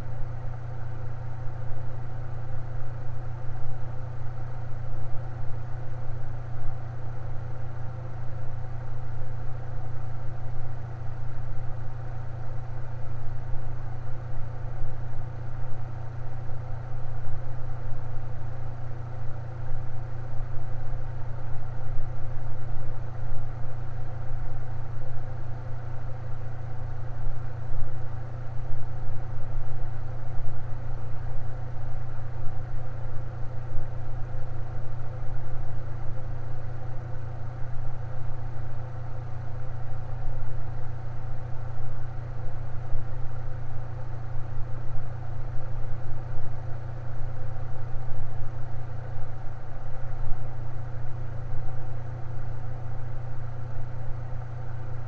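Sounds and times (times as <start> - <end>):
electric fan humming: 0.0 - 55.0.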